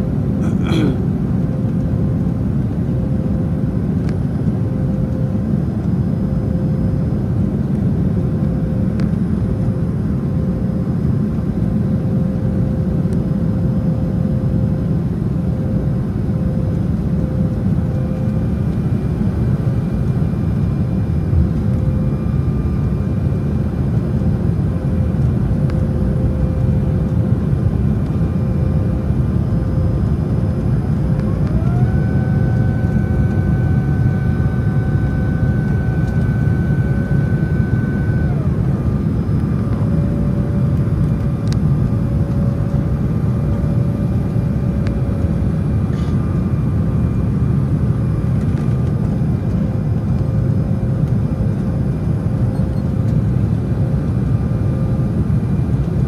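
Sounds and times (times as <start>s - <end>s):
airliner cabin engine rumble: 0.0s - 56.0s
faint steady hum: 0.0s - 56.0s.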